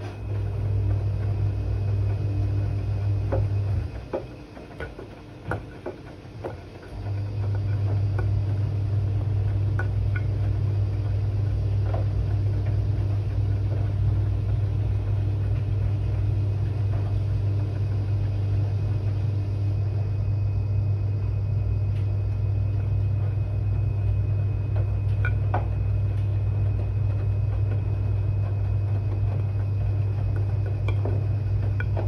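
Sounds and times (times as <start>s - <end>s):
washing machine drum turning: 0.0s - 19.3s, 21.3s - 32.0s.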